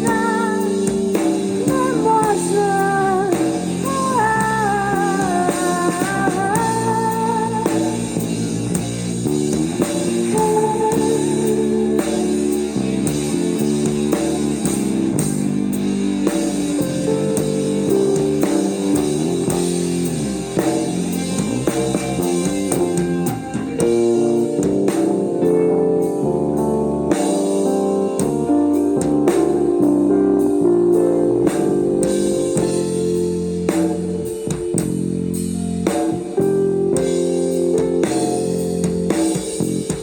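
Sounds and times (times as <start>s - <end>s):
drum kit: 0.0s - 40.0s
electric guitar lines: 0.0s - 40.0s.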